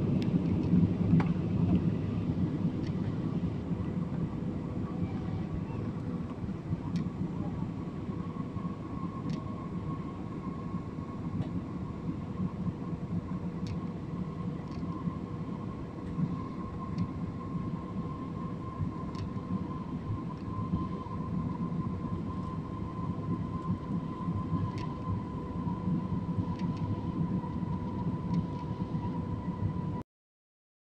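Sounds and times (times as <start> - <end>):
faint steady whine: 0.0 - 30.0
jet engine cabin rumble: 0.0 - 30.0.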